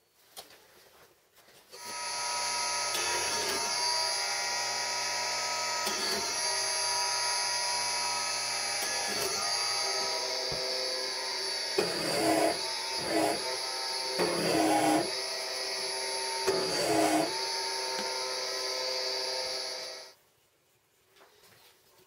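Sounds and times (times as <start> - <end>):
electric drill boring into wood: 1.8 - 20.2.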